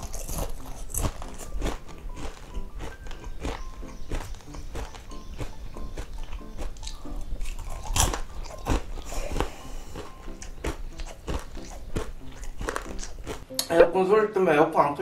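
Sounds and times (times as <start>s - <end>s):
crunching and chewing: 0.0s - 13.6s.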